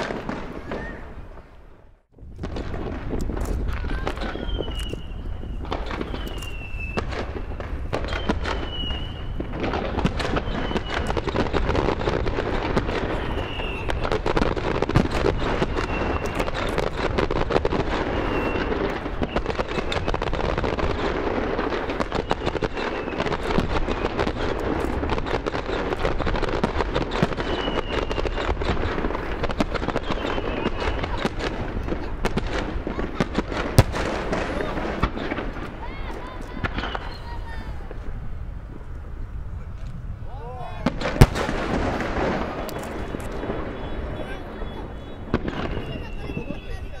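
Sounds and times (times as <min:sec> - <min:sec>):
fireworks crackling and popping: 0:00.0 - 0:47.0.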